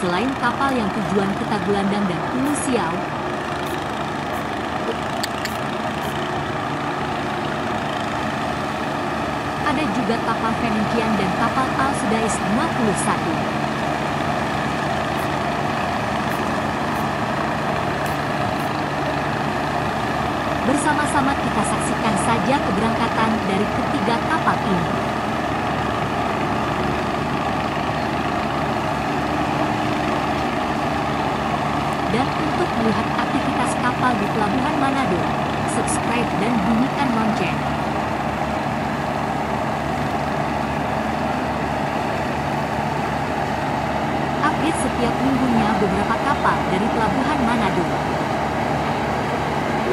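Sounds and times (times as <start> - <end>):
diesel engine idling: 0.0 - 49.9.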